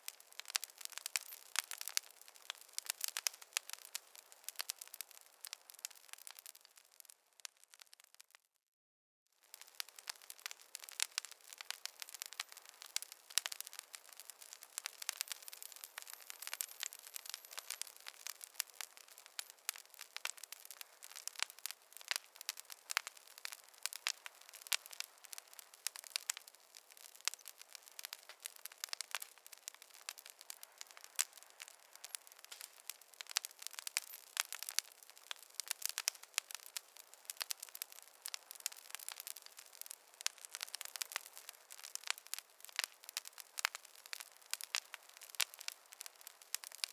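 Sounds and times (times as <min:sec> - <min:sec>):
campfire crackling: 0:00.0 - 0:08.4, 0:09.4 - 0:46.9.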